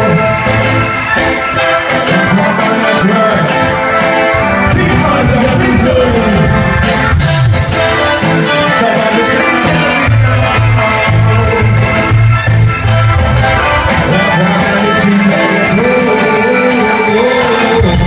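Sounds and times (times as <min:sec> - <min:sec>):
live band playing loud music: 0:00.0 - 0:18.0
steady drum beat: 0:00.0 - 0:18.0.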